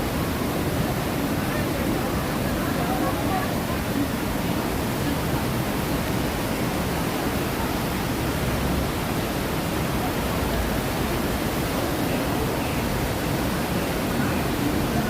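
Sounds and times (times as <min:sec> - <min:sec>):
rushing waterfall: 0:00.0 - 0:15.0.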